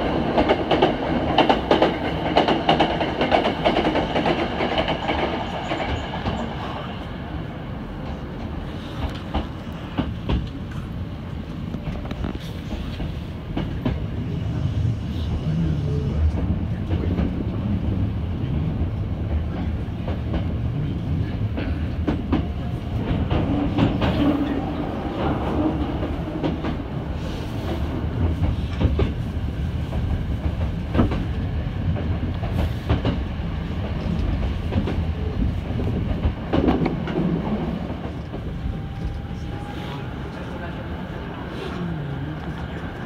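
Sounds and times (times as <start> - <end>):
train rumbling: 0.0 - 43.0.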